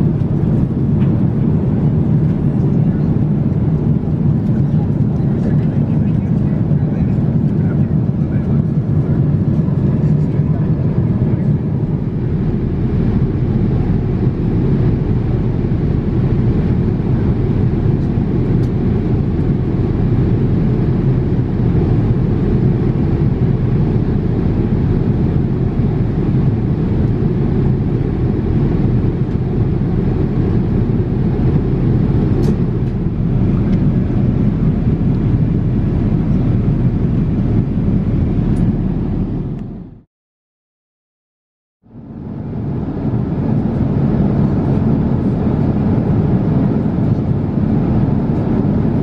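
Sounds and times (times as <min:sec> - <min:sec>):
airplane cabin noise: 0:00.0 - 0:40.0, 0:42.0 - 0:49.0.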